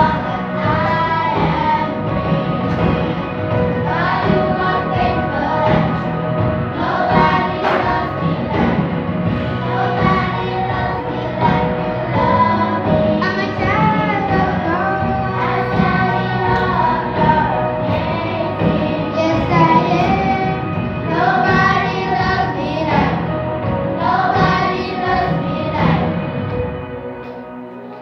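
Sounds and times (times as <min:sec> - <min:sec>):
children's choir singing: 0:00.0 - 0:28.0.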